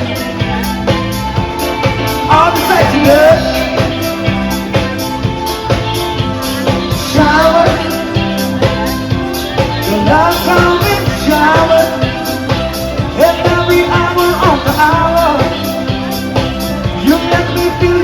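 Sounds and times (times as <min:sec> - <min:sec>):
drum kit beat: 0:00.0 - 0:18.0
person singing: 0:00.0 - 0:18.0.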